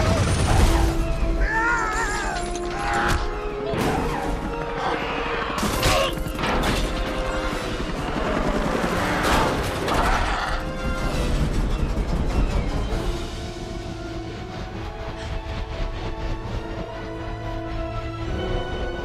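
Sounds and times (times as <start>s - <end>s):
dramatic orchestral music: 0.0s - 19.0s
helicopter rumble: 3.4s - 19.0s.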